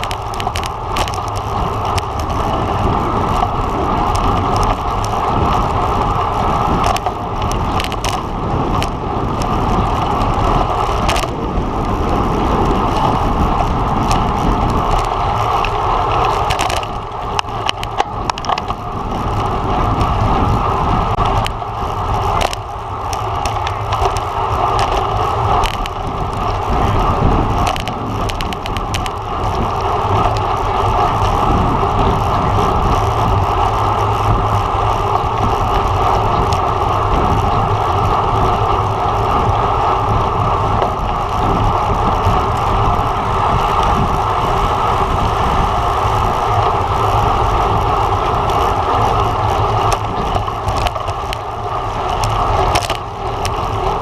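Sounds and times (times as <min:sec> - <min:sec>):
bicycle tyre and drivetrain noise: 0:00.0 - 0:54.0
wind buffeting microphone: 0:00.0 - 0:54.0.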